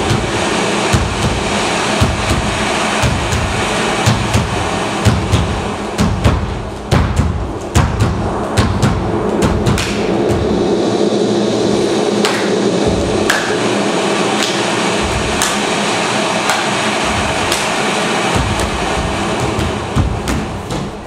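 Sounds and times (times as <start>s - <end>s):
heavy low thuds: 0.0s - 21.0s
low rumbles: 0.0s - 21.0s
steady droning noise: 0.0s - 21.0s.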